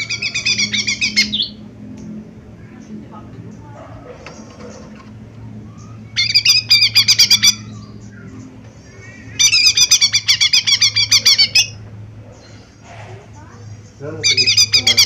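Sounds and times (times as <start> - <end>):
bird chattering song: 0.0 - 1.7, 2.6 - 15.0
low hum: 0.0 - 14.9.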